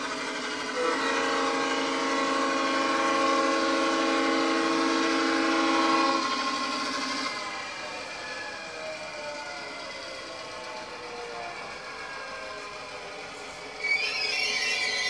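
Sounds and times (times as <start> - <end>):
model locomotive air horn: 0.0 - 8.7, 11.5 - 15.0.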